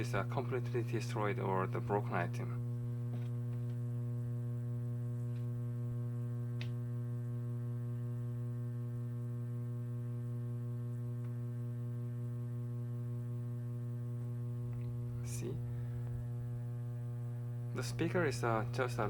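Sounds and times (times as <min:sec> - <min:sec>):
amplifier mains hum: 0:00.0 - 0:19.0.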